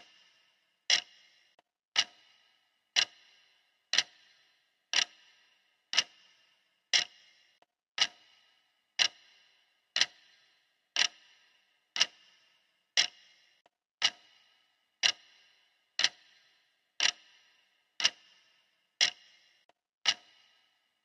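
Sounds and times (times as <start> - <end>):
clock ticking: 0.0 - 20.7.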